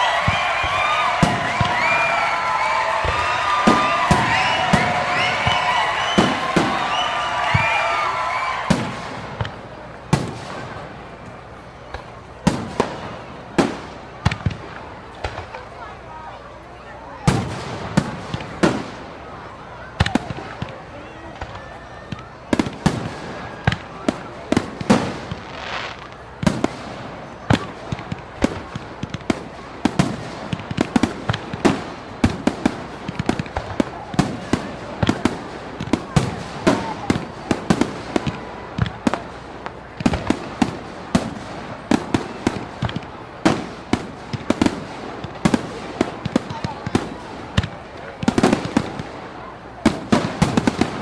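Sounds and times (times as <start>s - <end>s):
sharp pops and bangs: 0.0s - 15.9s, 19.9s - 49.2s.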